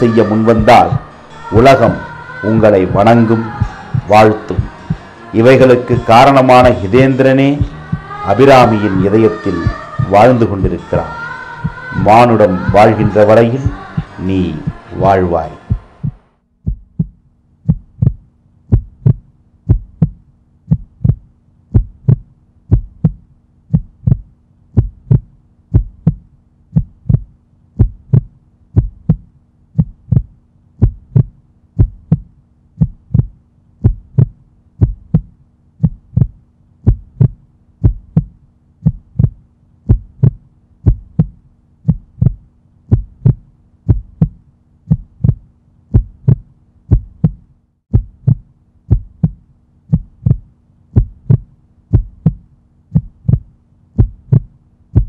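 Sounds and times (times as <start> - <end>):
low steady hum: 0.0 - 55.0
heartbeat thumping: 2.6 - 5.1, 6.6 - 10.8, 11.6 - 55.0.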